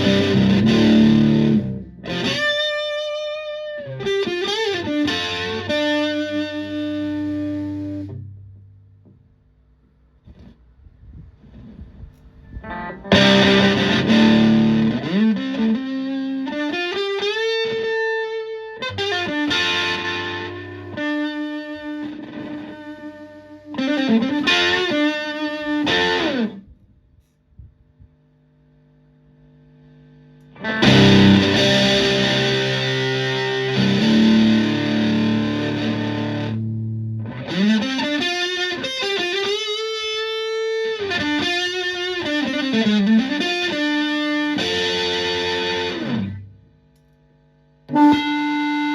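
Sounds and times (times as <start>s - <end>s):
fuzz electric guitar: 0.0s - 8.6s, 12.4s - 26.7s, 30.5s - 46.6s, 47.9s - 48.9s.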